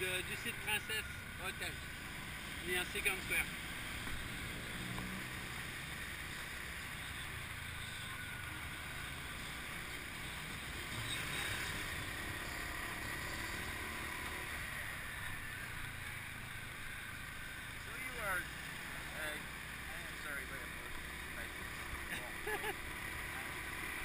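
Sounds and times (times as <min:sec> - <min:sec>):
motorbike engine: 0:00.0 - 0:24.0
road noise: 0:00.0 - 0:24.0.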